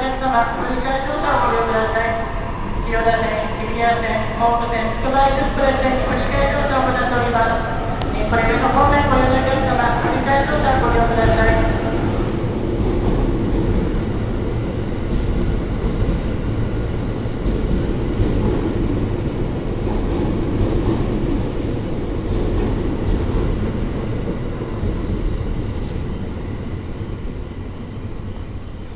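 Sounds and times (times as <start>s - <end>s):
train rumble and rail noise: 0.0s - 28.9s.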